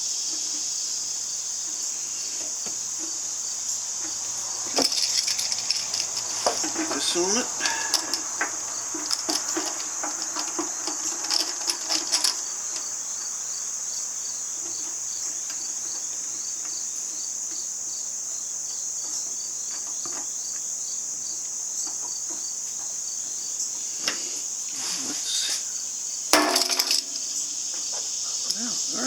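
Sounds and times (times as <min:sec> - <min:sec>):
insects chirping trill: 0:00.0 - 0:29.0.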